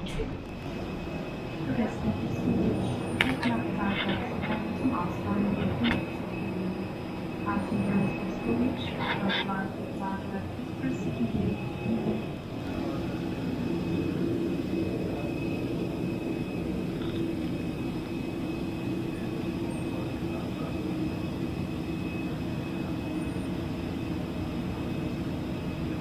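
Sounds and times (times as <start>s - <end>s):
high whine: 0.0s - 25.2s
low hum and rumble: 0.0s - 26.0s.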